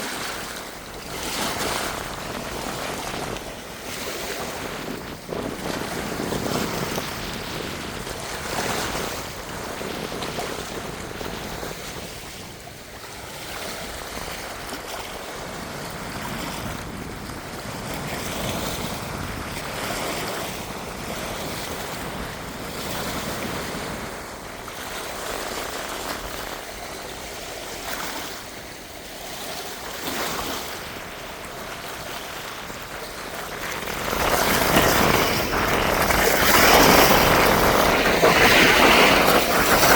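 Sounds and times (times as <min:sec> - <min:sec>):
strong wind gusts: 0:00.0 - 0:28.8, 0:29.8 - 0:39.9.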